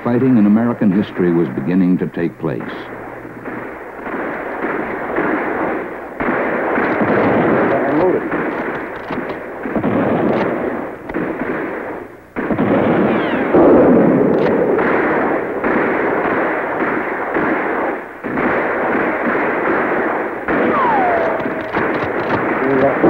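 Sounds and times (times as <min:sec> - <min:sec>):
musket and cannon fire: 0:00.2 - 0:23.0.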